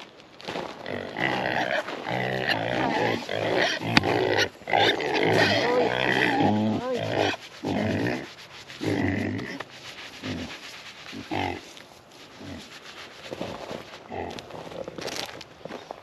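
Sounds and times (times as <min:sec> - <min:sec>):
pigs grunting: 0:00.8 - 0:11.7, 0:12.3 - 0:15.3.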